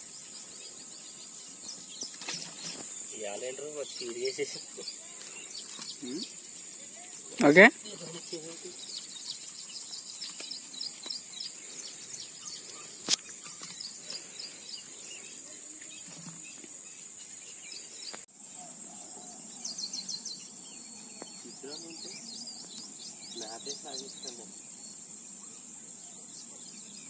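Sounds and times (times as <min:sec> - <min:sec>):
insects droning: 0:00.0 - 0:27.0
small birds chirping: 0:00.0 - 0:27.0.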